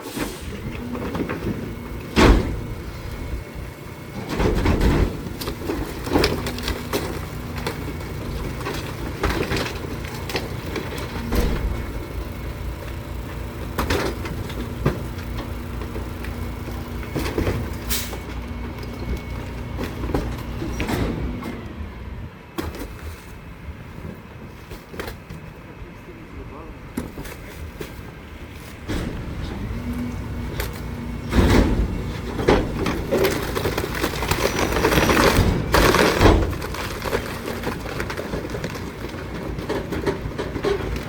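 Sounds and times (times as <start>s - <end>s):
garbage truck engine hum: 0.0s - 41.0s.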